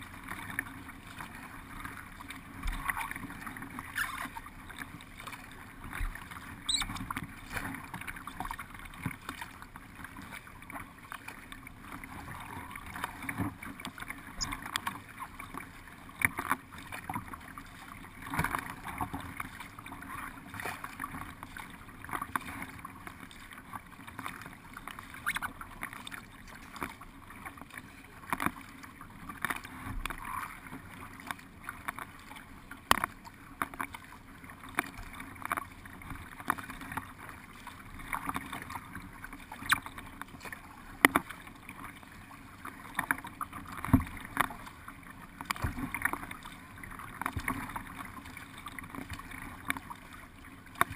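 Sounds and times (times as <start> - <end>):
paddle splashes and knocks: 0.0 - 50.9.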